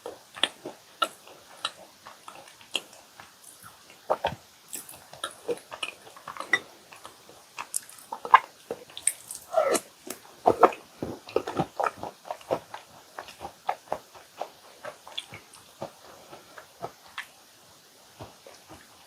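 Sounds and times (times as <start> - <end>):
wet chewing with mouth clicks: 0.0 - 19.0.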